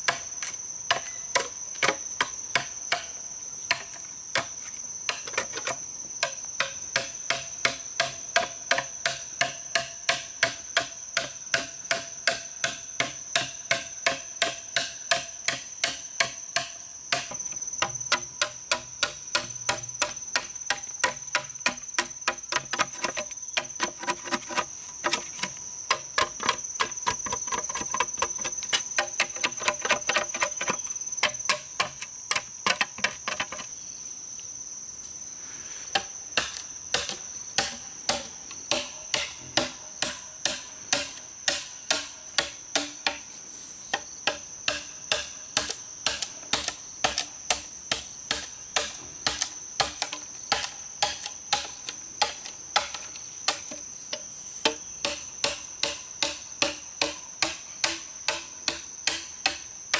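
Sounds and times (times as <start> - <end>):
insect drone: 0.0 - 59.9
machete chopping bamboo: 0.1 - 4.5, 5.1 - 33.6, 35.9 - 43.3, 43.9 - 59.7.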